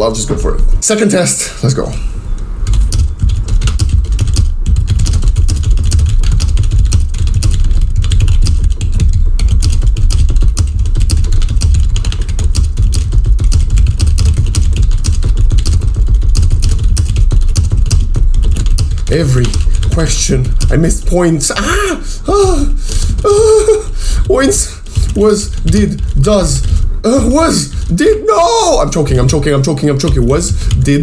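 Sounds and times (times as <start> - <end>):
heavy low rumble: 1.8 - 28.2
fast keyboard typing: 2.4 - 31.0.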